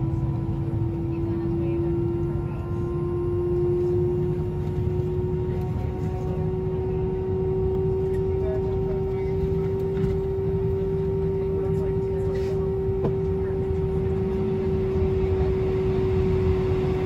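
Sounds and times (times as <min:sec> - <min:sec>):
low engine rumble: 0:00.0 - 0:17.0
steady cabin whine: 0:00.0 - 0:17.0.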